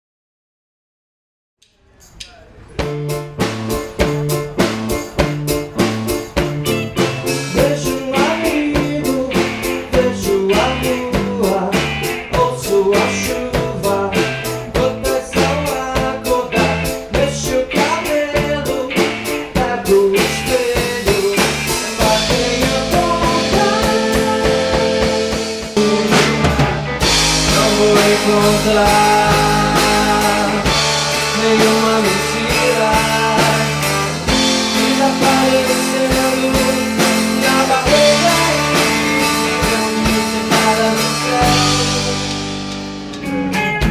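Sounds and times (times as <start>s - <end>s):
pop-rock band music: 2.8s - 43.9s.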